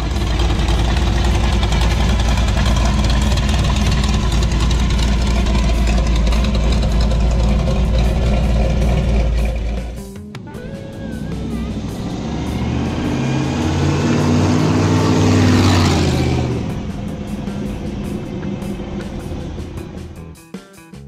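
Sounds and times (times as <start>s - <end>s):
car engine idling deep rumble: 0.0s - 20.4s.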